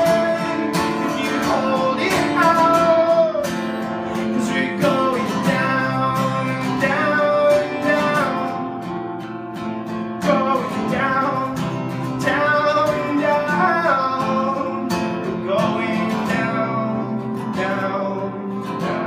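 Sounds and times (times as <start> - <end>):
man singing: 0.0 - 9.1, 10.1 - 19.0
strummed acoustic guitar: 0.0 - 19.0.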